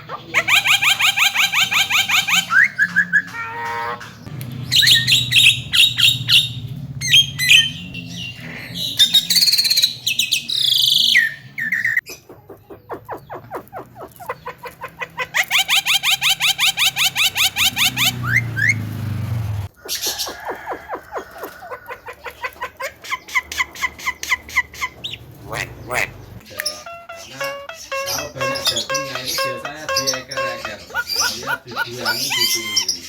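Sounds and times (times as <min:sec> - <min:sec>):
bird singing varied song: 0:00.0 - 0:22.6, 0:24.1 - 0:33.0.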